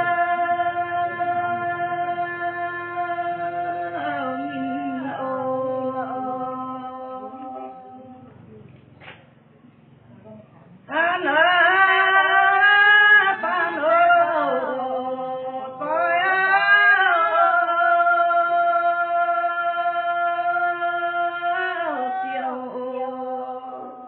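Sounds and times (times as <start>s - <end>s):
women singing unaccompanied: 0.0s - 8.5s, 10.8s - 24.0s.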